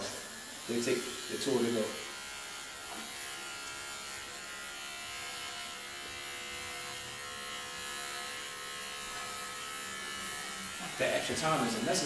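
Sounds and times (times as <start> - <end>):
electric hair clipper buzzing: 0.0 - 12.0.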